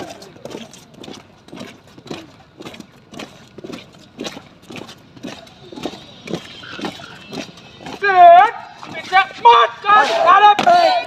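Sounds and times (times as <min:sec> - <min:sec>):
cadets' drill knocks and clacks: 0:00.0 - 0:11.0.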